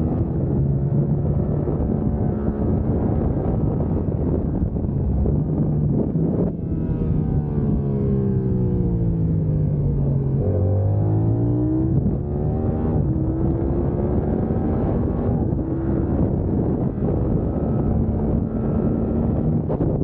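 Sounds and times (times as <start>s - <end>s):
motorcycle engine accelerating hard: 0.0s - 20.0s.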